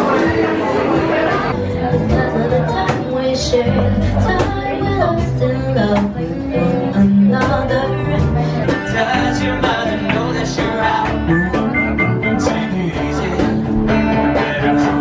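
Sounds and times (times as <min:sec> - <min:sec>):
bass: 0:00.0 - 0:15.0
guitar: 0:00.0 - 0:15.0
keyboard: 0:00.0 - 0:15.0
person singing: 0:00.0 - 0:15.0.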